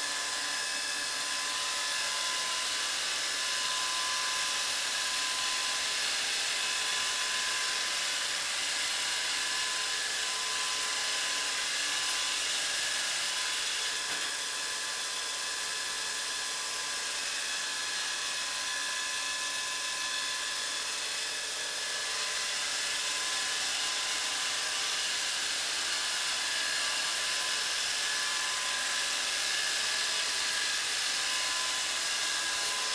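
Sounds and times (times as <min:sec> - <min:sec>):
robot vacuum cleaner running: 0:00.0 - 0:32.9.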